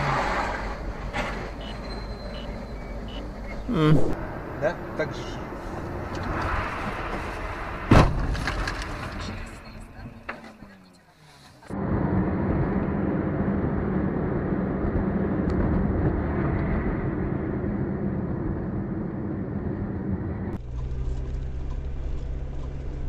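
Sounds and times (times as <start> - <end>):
car engine and road noise: 0.0 - 23.0
low engine hum: 0.0 - 23.0.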